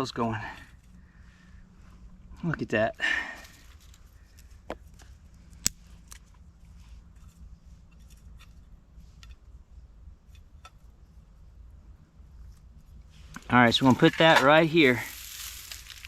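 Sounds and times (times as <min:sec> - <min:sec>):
low steady background rumble: 0:00.0 - 0:16.0.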